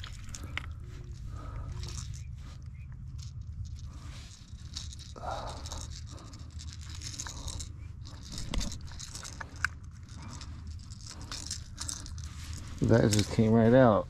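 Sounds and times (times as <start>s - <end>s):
fishing hook scraping and clicking: 0.0s - 13.7s.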